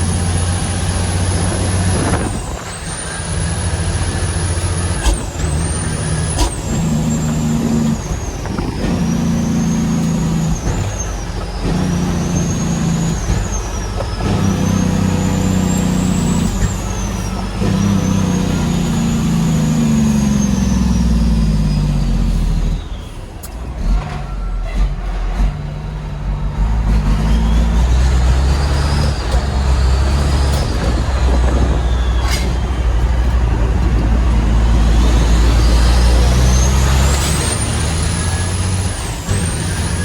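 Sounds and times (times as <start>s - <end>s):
truck engine shifting gears: 0.0s - 40.0s.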